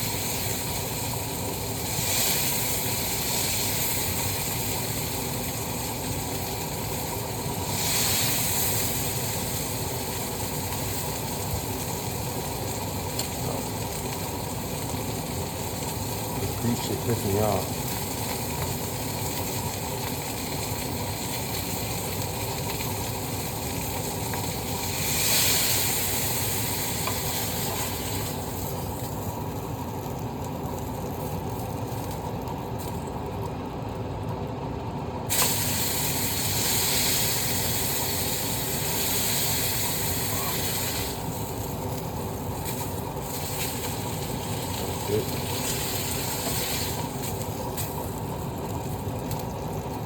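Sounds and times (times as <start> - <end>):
burgers sizzling in grease: 0.0 - 33.8, 35.2 - 50.0.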